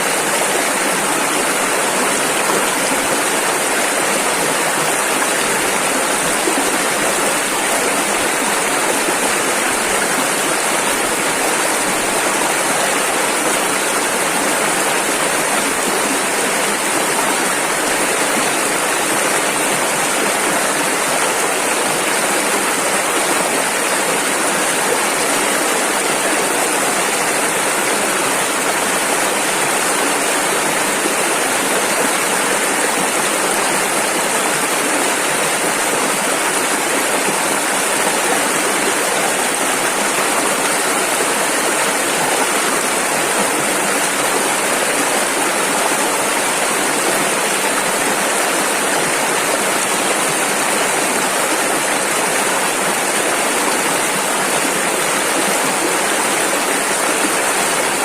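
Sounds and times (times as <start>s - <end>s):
river water rushing over rapids: 0.0s - 58.0s.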